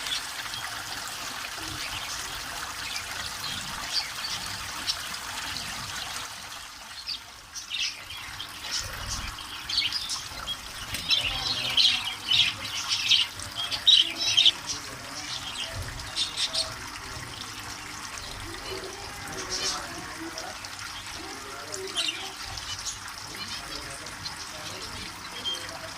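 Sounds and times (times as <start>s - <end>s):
small birds chirping: 0.0s - 25.9s
trickling water: 0.0s - 25.9s.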